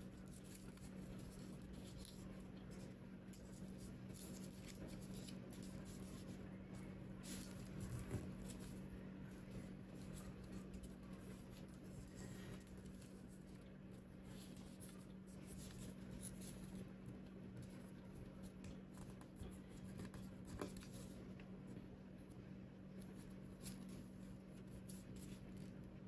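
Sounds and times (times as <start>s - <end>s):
steady low hum: 0.0s - 26.0s
paper rustling and crinkling: 0.1s - 21.4s.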